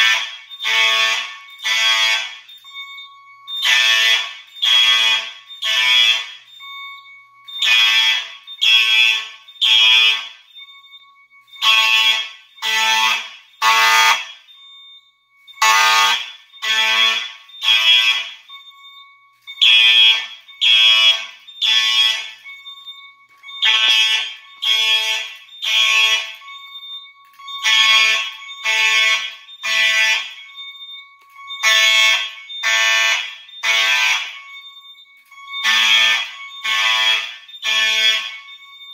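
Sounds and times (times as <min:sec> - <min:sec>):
fire alarm horn blasts: 0:00.0 - 0:38.9.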